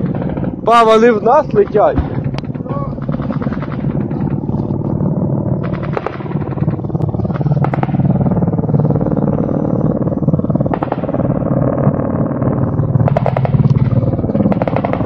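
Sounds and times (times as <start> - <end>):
helicopter rotor beat: 0.0 - 15.0
turbine drone: 0.0 - 15.0.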